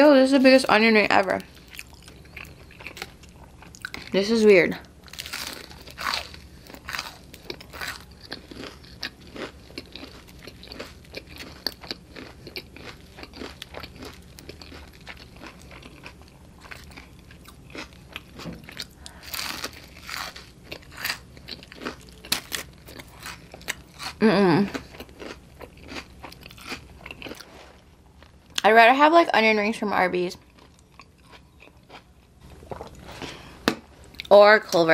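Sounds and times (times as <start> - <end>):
crunching and chewing onion ring: 1.3 - 4.2, 4.8 - 28.6, 30.4 - 33.5.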